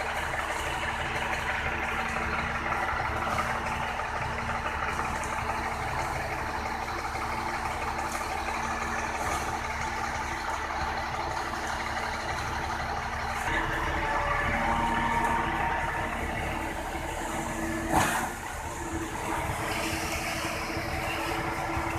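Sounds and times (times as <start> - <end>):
diesel engine running steadily: 0.0 - 21.9.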